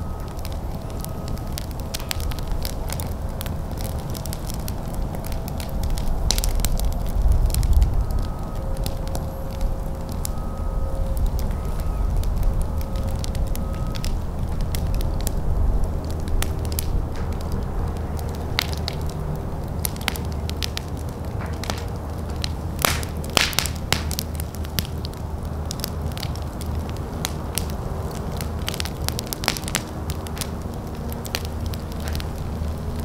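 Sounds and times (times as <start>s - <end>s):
fire crackling and popping: 0.0s - 33.0s
low fire rumble: 0.0s - 33.0s.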